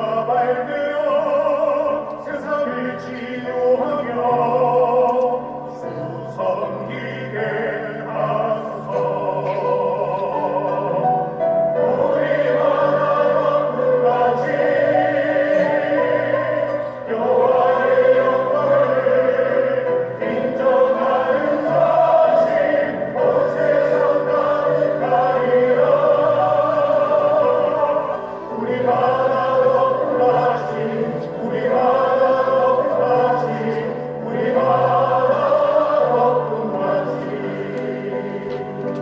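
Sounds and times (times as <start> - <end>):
choir singing a hymn: 0.0 - 39.0.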